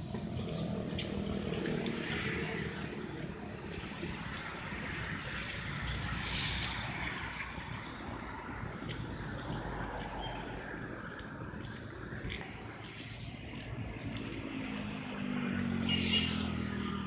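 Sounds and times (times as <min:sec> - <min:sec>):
traffic rumble and hiss: 0:00.0 - 0:17.0.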